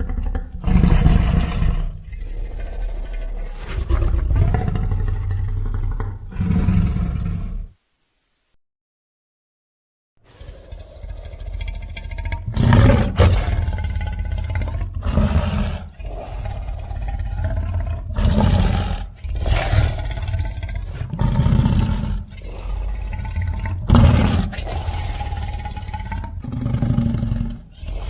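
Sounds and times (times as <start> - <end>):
creature roars: 0.0 - 7.7, 10.3 - 28.0.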